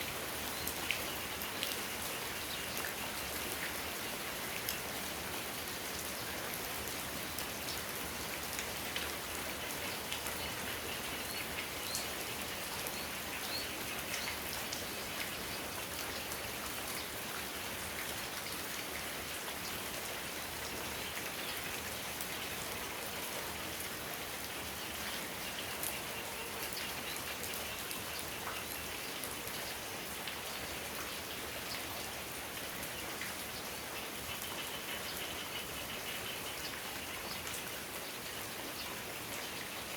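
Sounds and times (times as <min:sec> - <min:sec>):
steady rain: 0:00.0 - 0:39.9
raindrops ticking on hard surfaces: 0:00.1 - 0:39.9.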